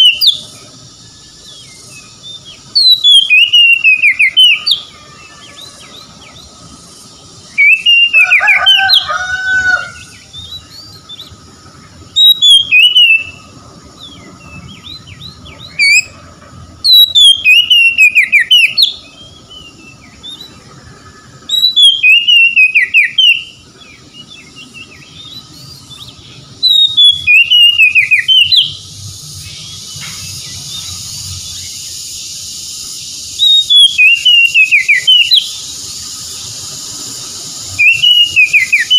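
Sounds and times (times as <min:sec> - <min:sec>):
bird singing whistled phrases: 0:00.0 - 0:00.8, 0:01.4 - 0:11.4, 0:12.1 - 0:16.2, 0:16.8 - 0:38.9
steady high hiss: 0:00.0 - 0:38.9.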